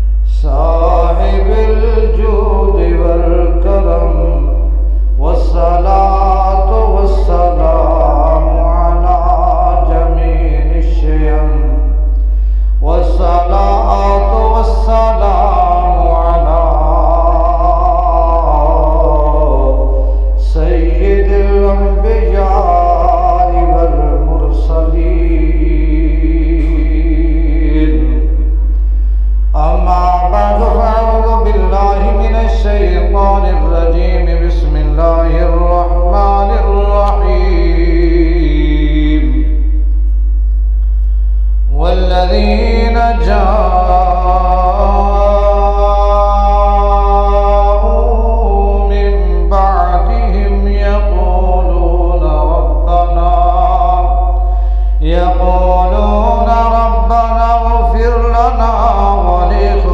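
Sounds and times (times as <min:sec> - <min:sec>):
man chanting: 0:00.0 - 0:39.9, 0:41.6 - 0:59.9
low electrical hum: 0:00.0 - 0:59.9.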